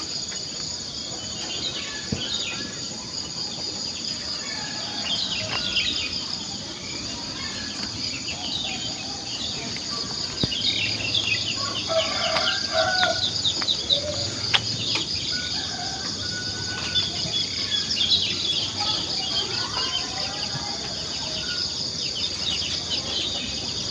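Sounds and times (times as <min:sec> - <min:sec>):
birds chirping and calling: 0:00.0 - 0:23.9
insect drone: 0:00.0 - 0:23.9.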